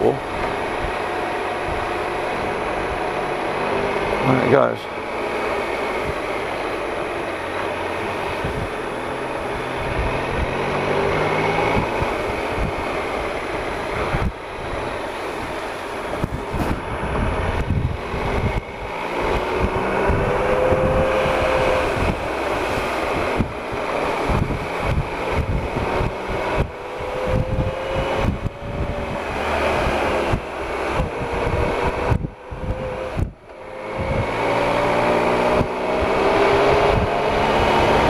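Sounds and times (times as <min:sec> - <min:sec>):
motorcycle engine running: 0:00.0 - 0:38.0
wind buffeting microphone: 0:00.0 - 0:38.0.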